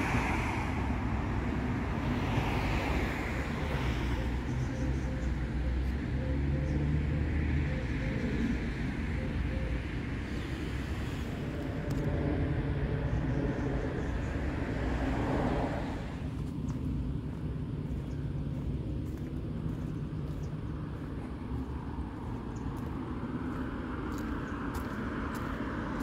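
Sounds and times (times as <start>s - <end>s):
distant traffic rumble: 0.0s - 26.0s.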